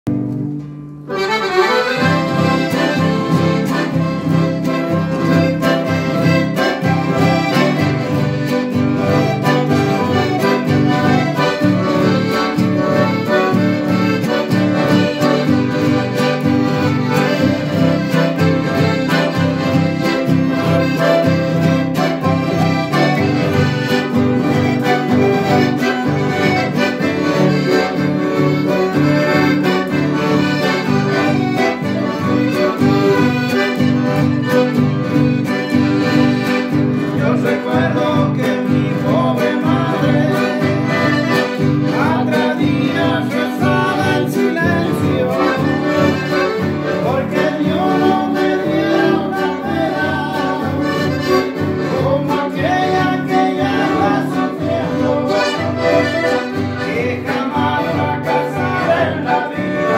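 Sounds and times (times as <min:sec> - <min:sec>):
accordion folk music: 0:00.0 - 0:59.9.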